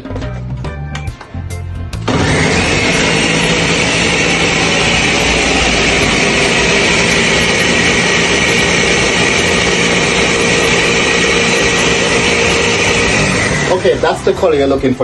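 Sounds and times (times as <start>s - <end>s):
blender motor whirring: 2.0s - 14.6s.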